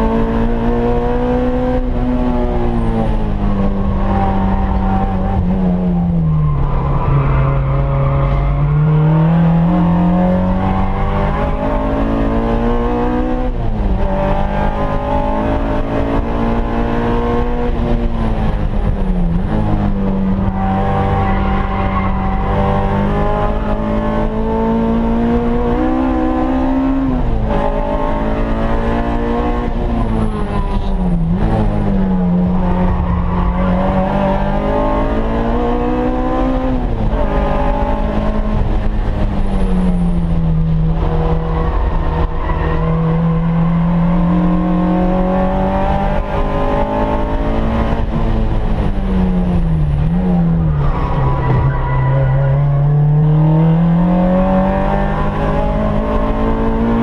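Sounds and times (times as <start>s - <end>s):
car engine from inside cabin: 7.0s - 57.0s.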